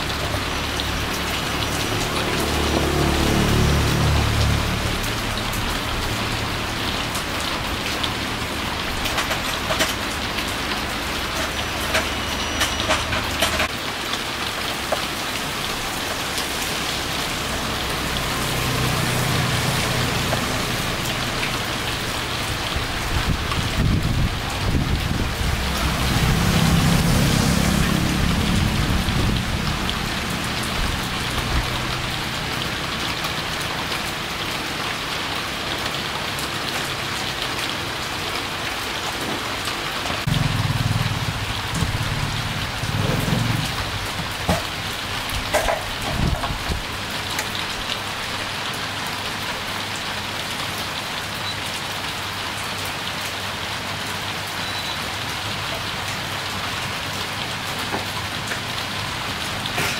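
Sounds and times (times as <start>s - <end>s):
steady hiss like rain: 0.0s - 59.9s.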